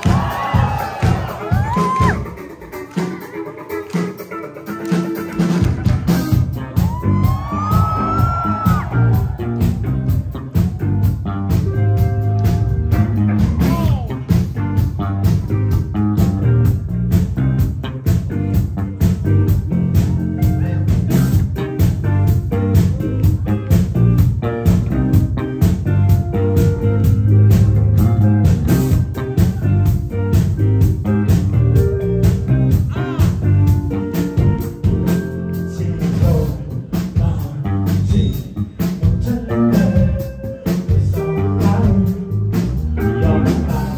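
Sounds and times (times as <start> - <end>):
live rock band playing: 0.0 - 43.9
electric guitar: 0.4 - 37.0.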